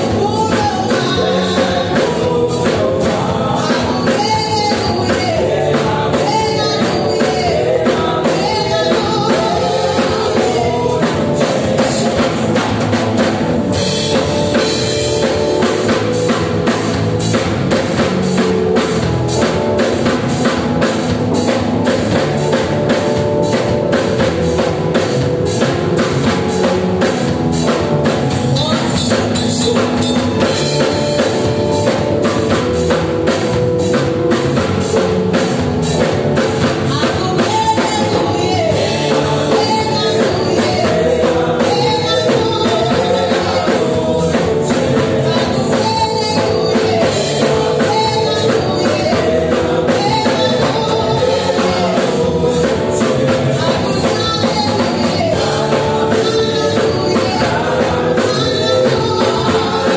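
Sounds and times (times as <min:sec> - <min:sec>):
singers singing into microphones: 0:00.0 - 0:17.3, 0:17.9 - 0:59.9
drum kit beat: 0:00.0 - 0:59.9.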